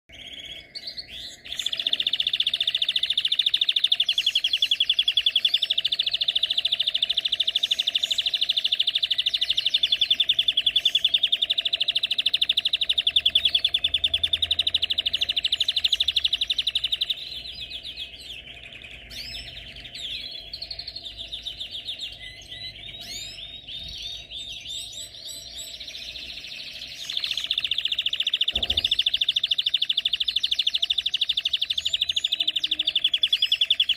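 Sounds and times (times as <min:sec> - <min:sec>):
canary singing: 0:00.1 - 0:33.9.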